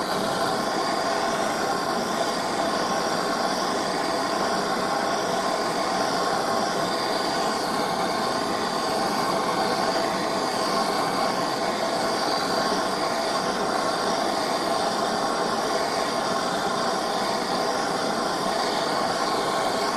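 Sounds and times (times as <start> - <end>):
machine tool whine and hum: 0.0 - 19.9.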